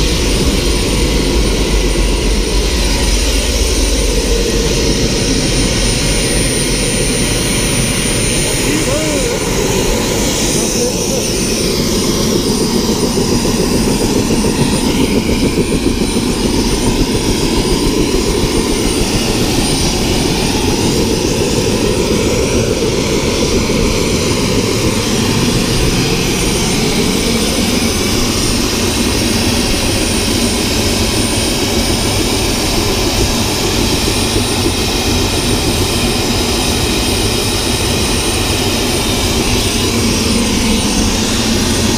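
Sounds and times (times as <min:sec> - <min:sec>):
helicopter engine and turbine whine: 0:00.0 - 0:41.9
helicopter rotor beat: 0:00.0 - 0:41.9.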